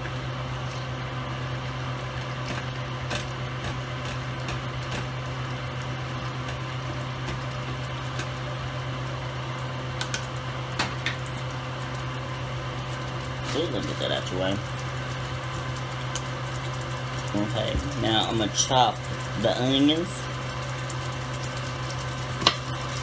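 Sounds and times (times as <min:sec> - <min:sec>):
appliance electrical hum: 0:00.0 - 0:23.0.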